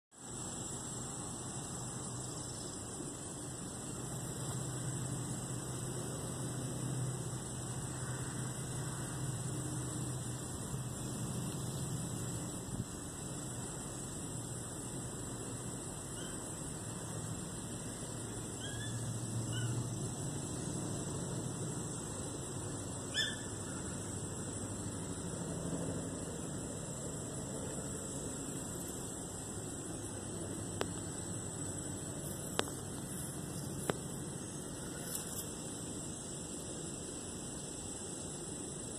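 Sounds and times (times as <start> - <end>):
constant hiss: 0.1 - 38.9
high steady whine: 0.1 - 38.9.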